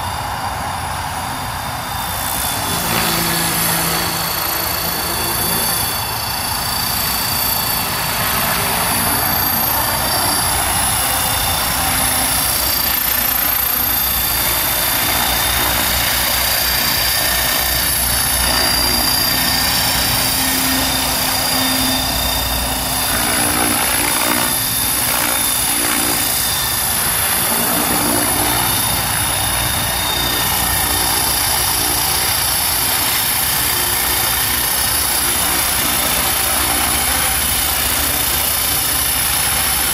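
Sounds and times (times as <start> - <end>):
electric motor high whine: 0.0 - 39.9
rotor blades rushing: 0.0 - 39.9.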